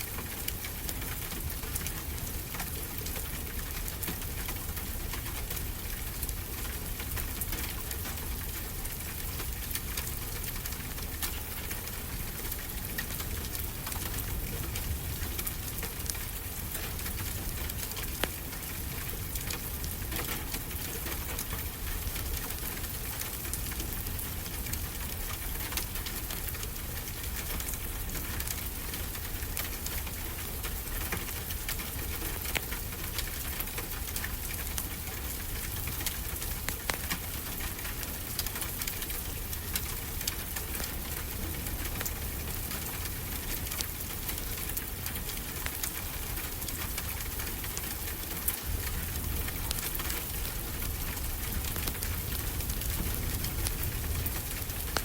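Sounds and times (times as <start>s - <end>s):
wood fire crackling and popping: 0.1s - 55.0s.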